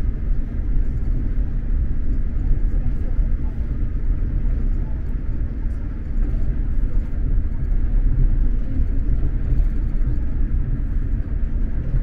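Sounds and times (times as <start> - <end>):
train running at speed: 0.0 - 12.0.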